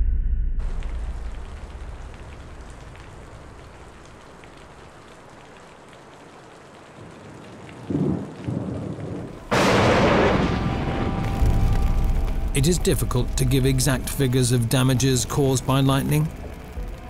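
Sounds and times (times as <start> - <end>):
thunder rumbling: 0.0 - 4.5, 7.8 - 17.0
steady rain: 0.6 - 17.0.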